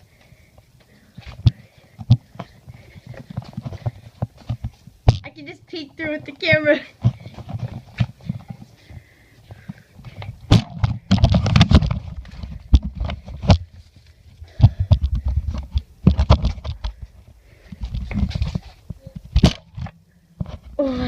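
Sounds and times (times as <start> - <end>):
footsteps: 0.0 - 20.7.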